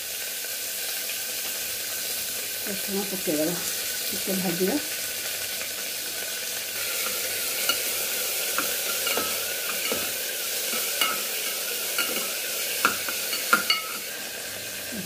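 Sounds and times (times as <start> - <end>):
onion and garlic sizzling: 0.0 - 15.0.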